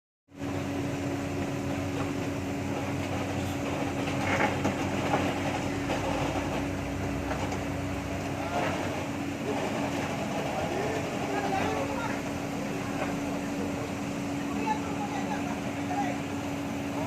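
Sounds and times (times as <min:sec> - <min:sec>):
diesel engine running: 0:00.3 - 0:17.0.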